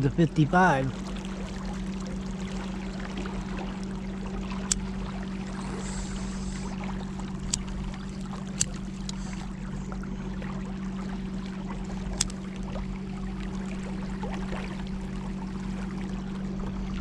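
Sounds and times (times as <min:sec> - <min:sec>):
boat motor humming: 0:00.0 - 0:17.0
rushing water: 0:00.0 - 0:17.0.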